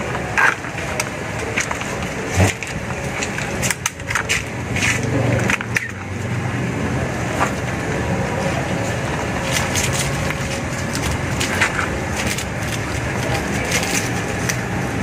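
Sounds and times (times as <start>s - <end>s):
leaves rustling and crackling: 0.0s - 15.0s
steady low hum: 0.0s - 15.0s.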